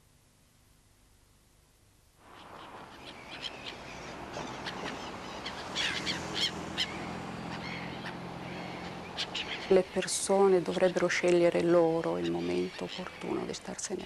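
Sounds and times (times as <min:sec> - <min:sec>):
outdoor background noise: 0:00.0 - 0:14.0
gulls calling: 0:02.2 - 0:13.8.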